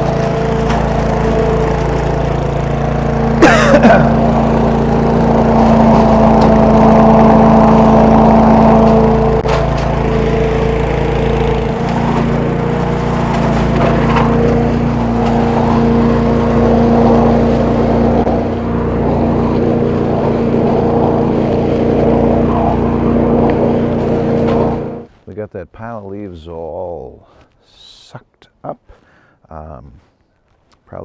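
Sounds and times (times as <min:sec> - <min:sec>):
air and leaves rushing through hose: 0:00.0 - 0:25.2
leaf vacuum engine humming: 0:00.0 - 0:25.4.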